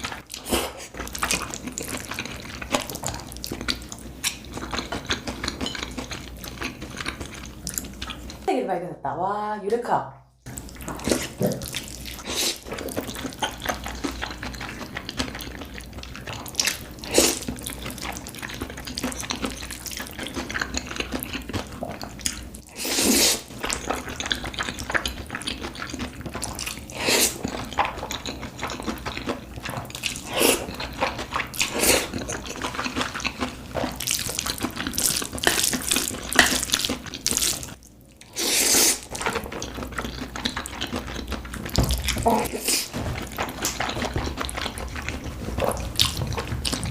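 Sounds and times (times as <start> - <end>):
wet chewing and mouth sounds: 0.0 - 8.5, 10.4 - 46.9.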